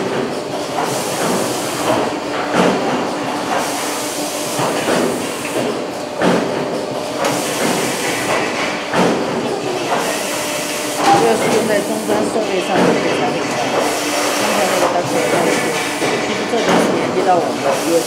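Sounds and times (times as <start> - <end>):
machine clanks and knocks: 0.0 - 3.7, 4.5 - 18.0
machinery hum and hiss: 0.0 - 18.0.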